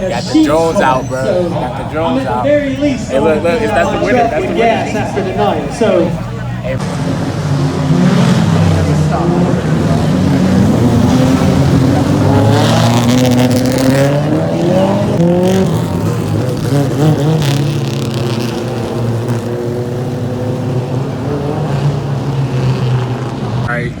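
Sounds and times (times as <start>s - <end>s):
race car engines: 0.0s - 24.0s.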